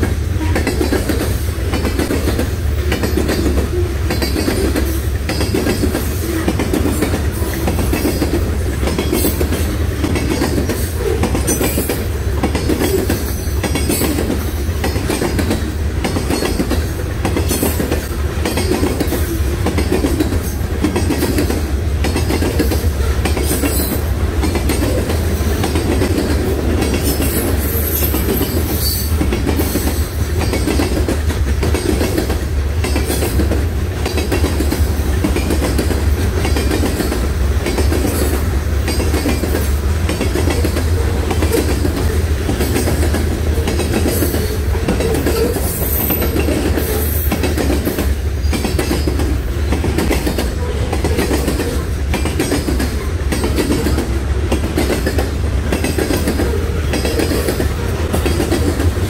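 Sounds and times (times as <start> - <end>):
freight train rumbling past: 0.0 - 59.0
wheels clickety-clack: 0.0 - 59.0.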